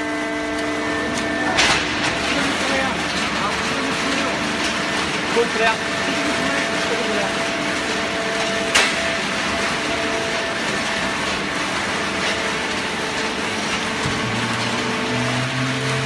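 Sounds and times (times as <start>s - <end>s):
baling press humming: 0.0s - 16.0s.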